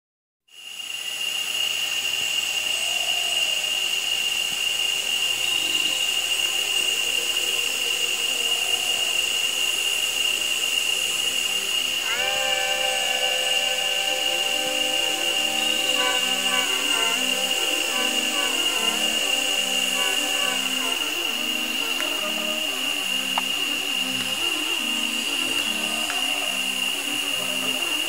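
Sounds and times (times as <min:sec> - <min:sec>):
insects droning: 0:00.5 - 0:28.0
held tones gliding upward: 0:02.5 - 0:28.0.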